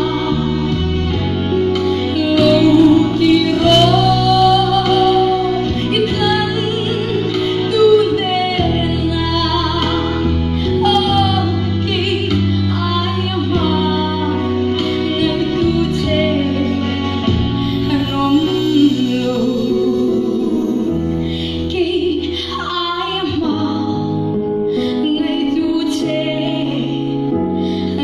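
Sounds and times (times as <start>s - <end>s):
sustained backing chords: 0.0s - 28.0s
woman singing a slow song: 2.0s - 28.0s.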